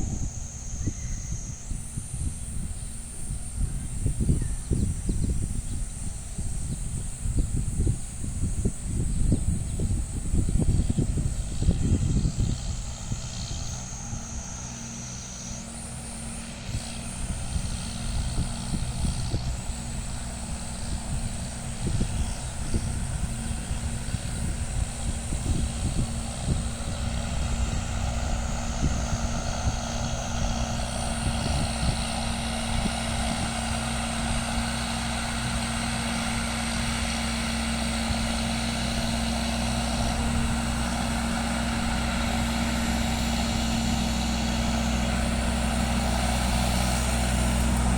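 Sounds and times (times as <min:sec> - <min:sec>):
high whine rising in pitch: 0:00.0 - 0:47.9
tractor diesel engine running: 0:00.0 - 0:47.9
engine knocking: 0:03.0 - 0:47.9.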